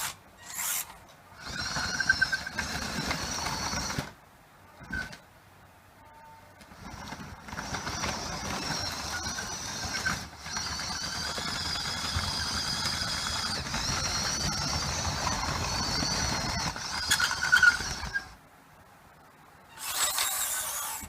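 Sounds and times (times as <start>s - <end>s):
mechanical rattle: 0.0s - 4.2s, 6.6s - 18.4s, 19.7s - 21.0s
electric motors whining: 0.0s - 5.2s, 6.1s - 18.4s, 19.7s - 21.0s.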